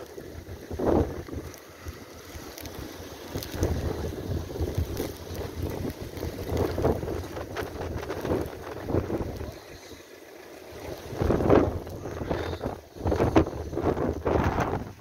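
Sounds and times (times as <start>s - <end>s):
wind gusts buffeting microphone: 0.2s - 9.8s, 10.7s - 15.0s.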